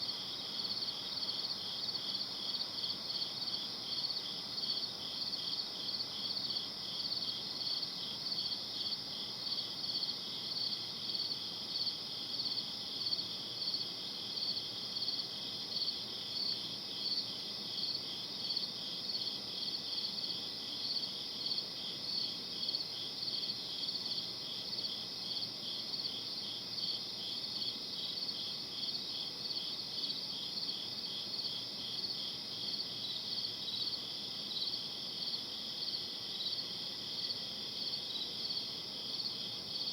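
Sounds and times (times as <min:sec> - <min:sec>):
low background hiss: 0:00.0 - 0:39.9
night insects chirping: 0:00.0 - 0:39.9.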